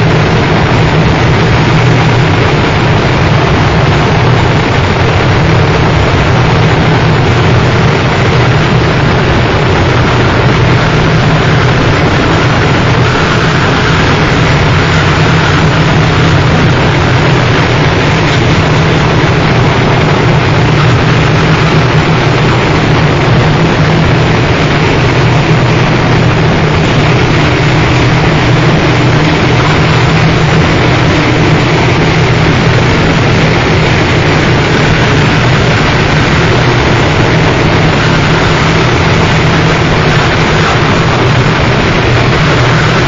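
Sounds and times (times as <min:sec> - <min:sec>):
heavy low hum: 0:00.0 - 0:43.0
wall of distorted noise: 0:00.0 - 0:43.0.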